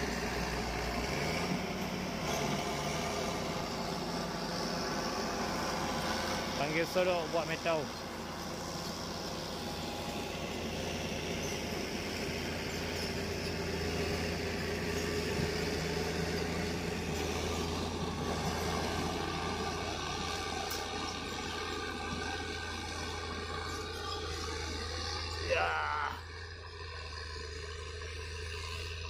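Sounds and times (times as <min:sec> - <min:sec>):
diesel engines droning: 0:00.0 - 0:29.0.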